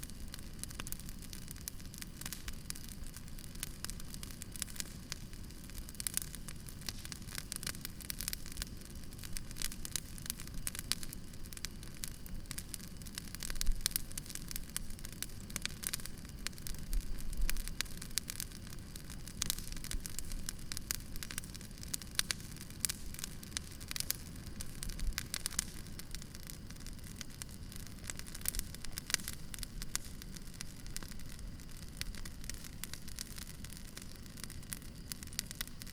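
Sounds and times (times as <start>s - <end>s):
campfire crackling and popping: 0.0s - 35.9s
low rumble of flames: 0.0s - 35.9s.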